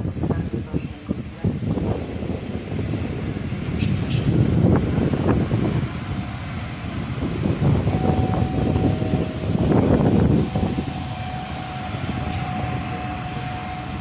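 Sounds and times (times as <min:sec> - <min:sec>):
diesel railbus rumbling past: 0:00.0 - 0:14.0
steady whine: 0:01.2 - 0:14.0.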